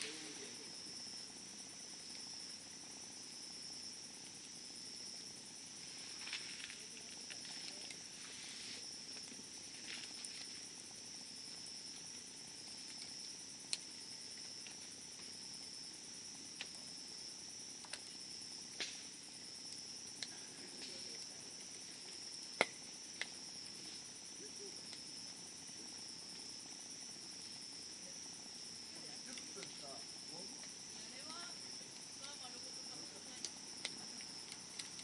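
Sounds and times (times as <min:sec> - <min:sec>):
insects chirring: 0:00.0 - 0:35.0
wood fire crackling and popping: 0:00.0 - 0:35.0.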